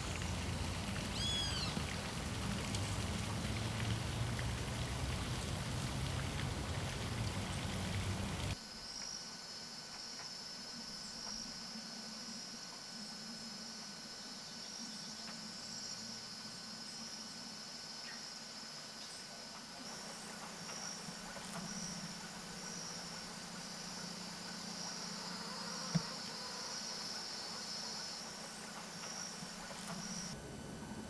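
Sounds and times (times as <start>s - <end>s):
insects chirping: 0.0s - 30.9s
high steady hiss: 0.0s - 31.0s.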